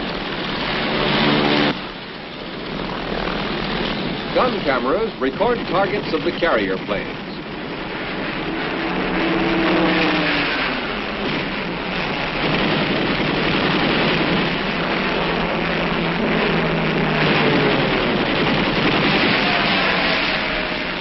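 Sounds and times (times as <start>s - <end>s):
aircraft engine roar: 0.0s - 21.0s.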